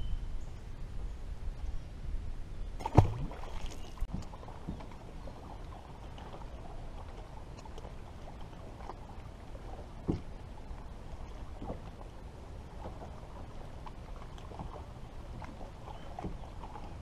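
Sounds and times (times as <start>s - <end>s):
water lapping against boat hull: 2.8s - 17.0s.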